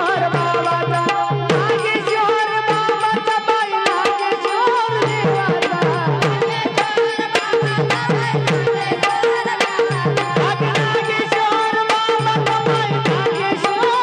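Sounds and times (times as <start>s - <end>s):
tabla rhythm: 0.0s - 14.0s.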